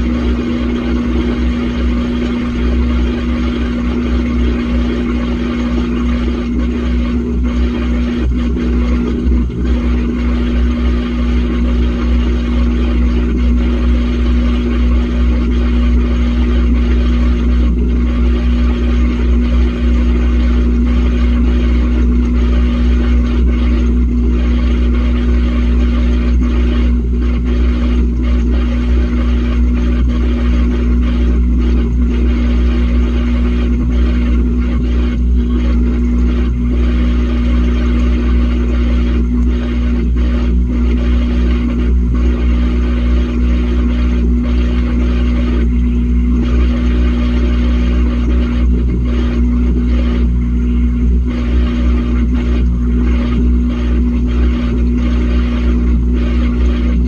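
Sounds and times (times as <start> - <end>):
washing machine drum hum: 0.0 - 57.0.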